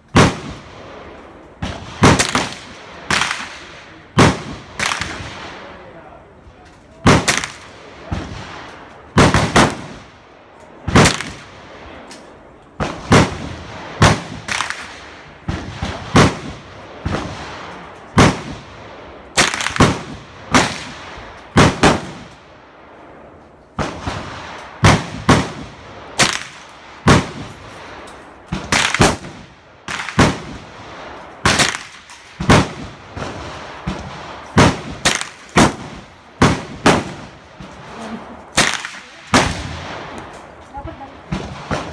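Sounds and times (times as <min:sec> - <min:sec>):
gunshots with ring-out: 0:00.0 - 0:06.2, 0:07.0 - 0:41.9.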